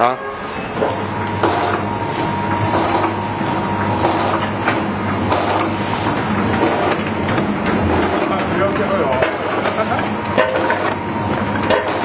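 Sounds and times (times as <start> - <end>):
thin steady machine whine: 0.2 - 12.0
packing machine hum: 0.5 - 12.0.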